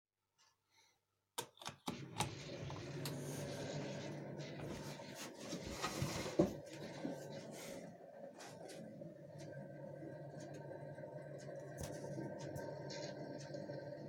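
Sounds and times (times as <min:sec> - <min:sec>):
microwave oven humming: 0:01.4 - 0:14.0.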